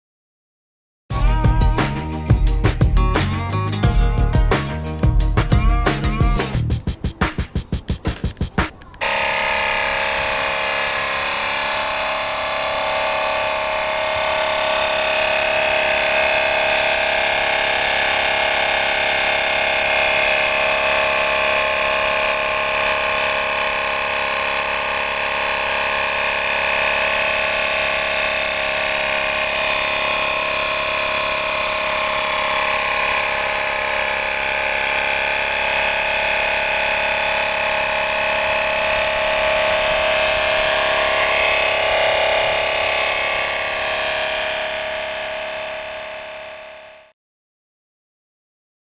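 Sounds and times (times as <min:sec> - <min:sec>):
electric air pump motor whine: 0:01.1 - 0:07.4, 0:09.0 - 0:47.2.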